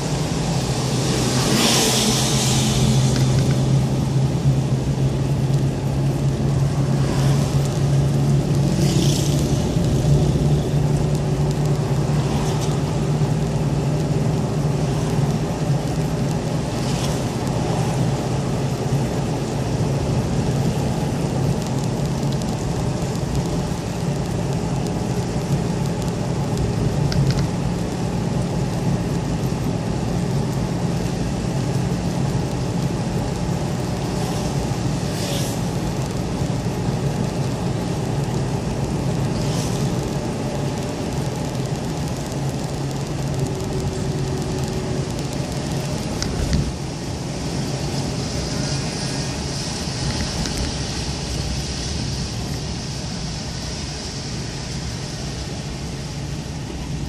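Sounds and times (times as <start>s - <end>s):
car engine hum: 0.0s - 57.0s
tyre noise on wet road: 0.0s - 57.0s.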